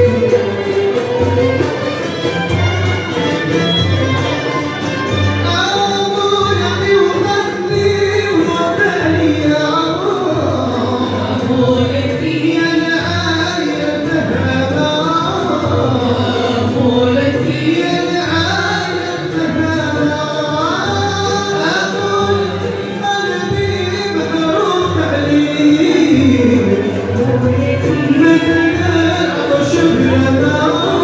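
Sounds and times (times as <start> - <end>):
men singing: 0.0 - 3.6, 4.5 - 31.0
frame drum beat: 0.0 - 31.0
violins: 0.0 - 31.0.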